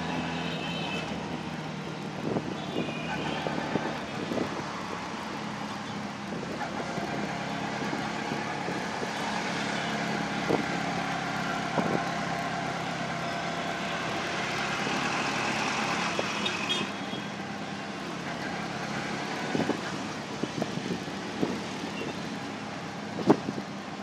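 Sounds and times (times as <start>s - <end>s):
engine and road noise: 0.0s - 24.0s.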